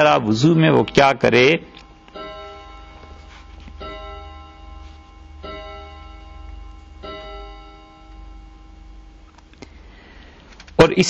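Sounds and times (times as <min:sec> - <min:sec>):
clock chimes: 0:00.0 - 0:10.4
low hum: 0:01.6 - 0:10.7.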